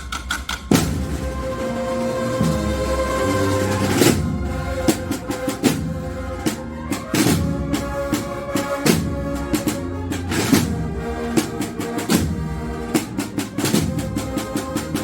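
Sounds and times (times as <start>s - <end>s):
snare and bass drums: 0.0s - 15.0s
wind instruments holding notes: 0.7s - 15.0s.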